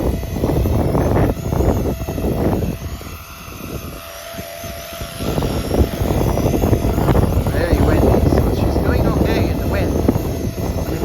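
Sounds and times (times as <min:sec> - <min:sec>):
rc helicopter motor whine: 0:00.0 - 0:11.0
wind buffeting microphone: 0:00.0 - 0:11.0.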